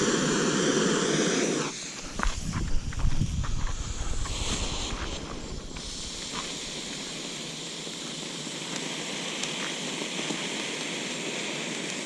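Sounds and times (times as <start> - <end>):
firework fountain hissing: 0.0 - 12.0
faint firework pops: 1.5 - 12.0.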